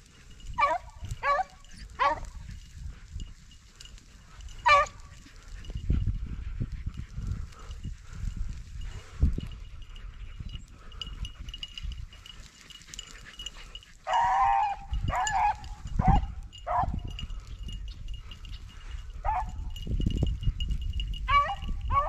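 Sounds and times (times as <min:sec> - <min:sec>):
hounds baying: 0:00.0 - 0:19.8, 0:20.5 - 0:22.0.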